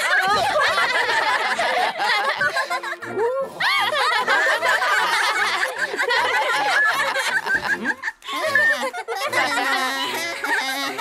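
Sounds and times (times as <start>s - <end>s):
cartoon voices laughing and giggling: 0.0s - 11.0s.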